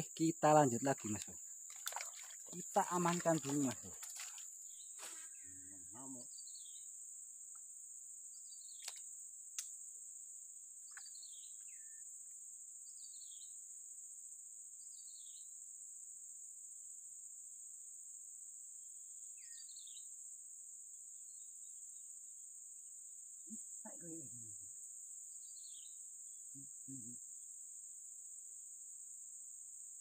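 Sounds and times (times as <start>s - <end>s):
insect chorus: 0.0s - 30.0s.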